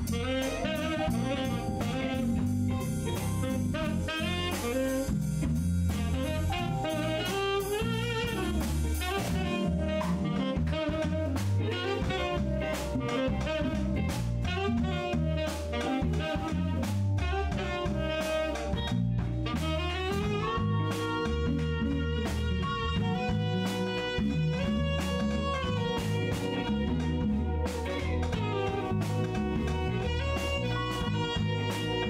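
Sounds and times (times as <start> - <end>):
drum kit: 0.0 - 32.0
electric bass: 0.0 - 32.0
keyboard: 0.0 - 32.0
saxophone melody: 0.0 - 32.0.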